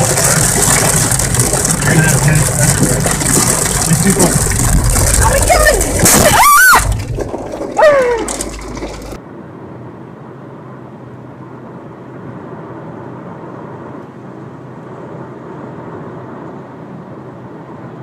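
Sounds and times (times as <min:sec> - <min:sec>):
car driving road noise: 0:00.0 - 0:15.0.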